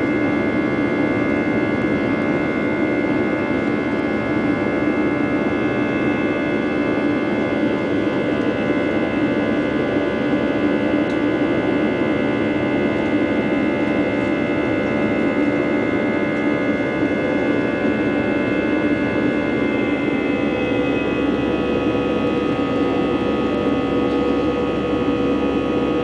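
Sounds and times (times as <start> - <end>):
jet engine cabin drone: 0.0 - 26.0
steady whining tones: 0.0 - 26.0.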